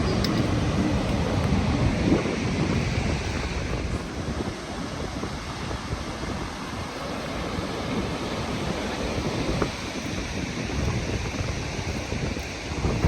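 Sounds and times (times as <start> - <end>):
waterfall roaring: 0.0 - 13.0
wind buffeting microphone: 0.0 - 13.0.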